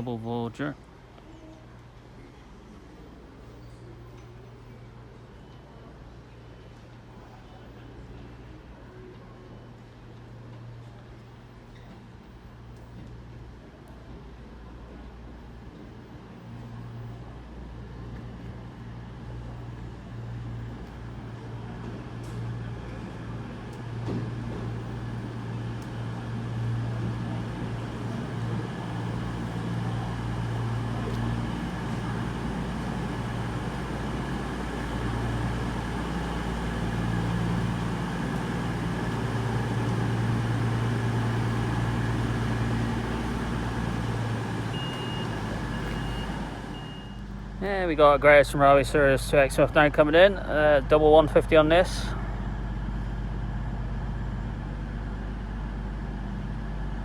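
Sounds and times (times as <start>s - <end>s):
diesel train engines humming: 0.0s - 57.0s.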